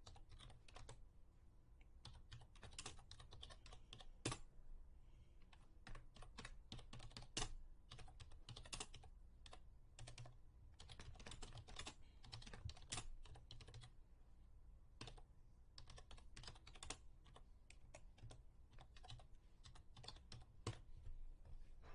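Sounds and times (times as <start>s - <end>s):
faint keyboard typing: 0.0s - 1.0s, 1.8s - 4.5s, 5.4s - 14.0s, 15.0s - 21.2s.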